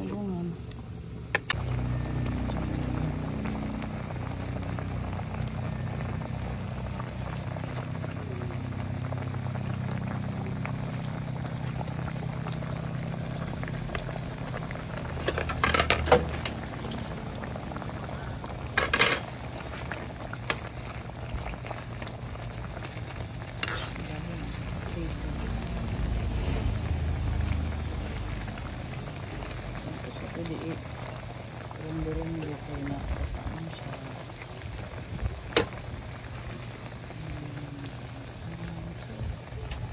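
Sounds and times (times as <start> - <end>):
liquid bubbling at a boil: 0.0 - 39.9.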